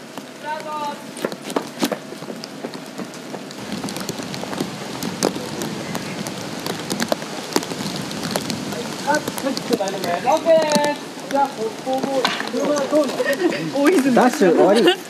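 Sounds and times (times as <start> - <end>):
raindrops ticking close by: 0.0 - 14.6
steady rain falling: 0.0 - 15.0.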